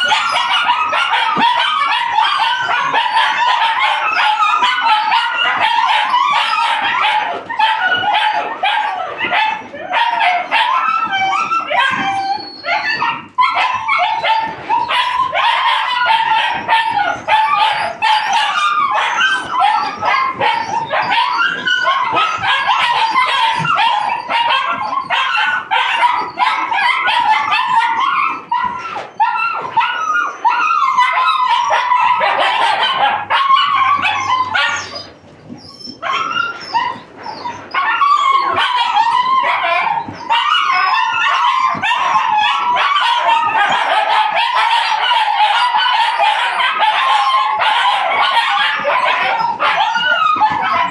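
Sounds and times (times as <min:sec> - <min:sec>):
puppies yipping barking and whining: 0:00.0 - 0:50.9.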